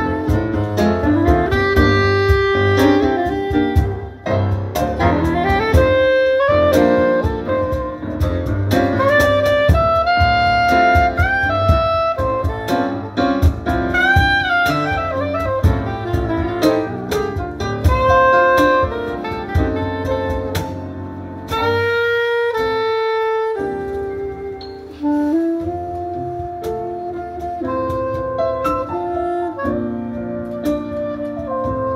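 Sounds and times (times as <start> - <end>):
bass: 0.0 - 31.9
cajon percussion: 0.0 - 31.9
grand piano: 0.0 - 31.9
soprano saxophone melody: 0.0 - 31.9.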